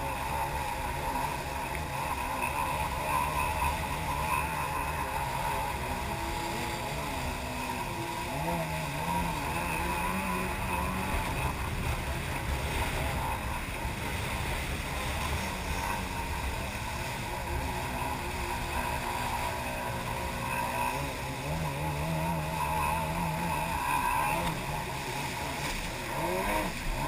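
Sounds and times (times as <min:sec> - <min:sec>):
jet ski engine: 0:00.0 - 0:27.0.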